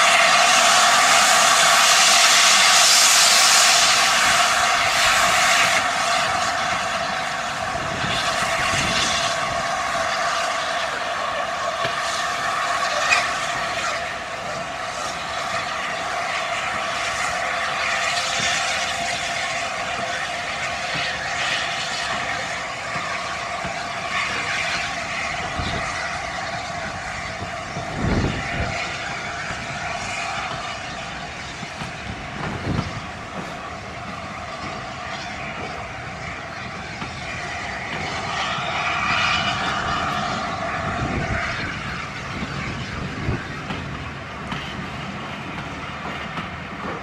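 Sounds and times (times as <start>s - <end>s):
steam train passing: 0.0s - 47.0s.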